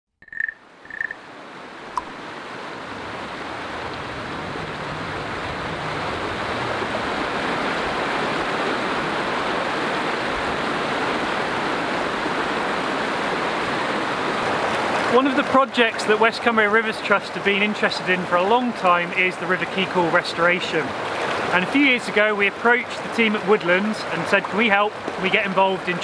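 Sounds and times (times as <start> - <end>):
river rushing over stones: 0.9 - 26.0.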